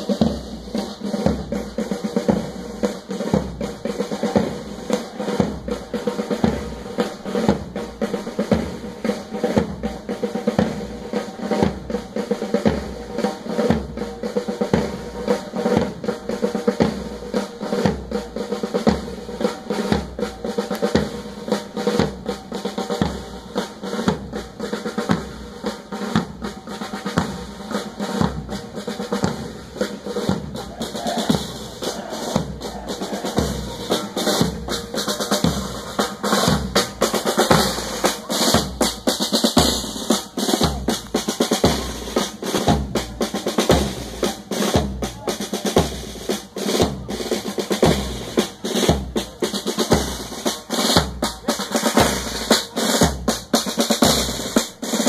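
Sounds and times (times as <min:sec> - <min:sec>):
bass drum beat: 0:00.0 - 0:54.5
snare drums rolling: 0:00.0 - 0:55.0.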